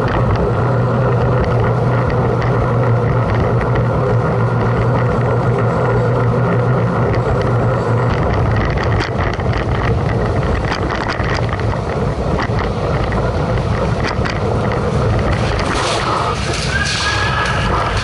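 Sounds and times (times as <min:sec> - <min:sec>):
bike clicks and knocks: 0:00.0 - 0:18.0
tyre rumble on paved road: 0:00.0 - 0:18.0.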